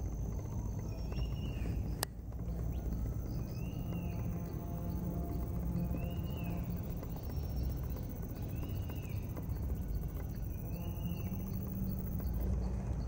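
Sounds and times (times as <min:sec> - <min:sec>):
crickets chirping: 0:00.0 - 0:13.0
faint regular ticking: 0:00.0 - 0:13.0
low steady rumble: 0:00.0 - 0:13.0.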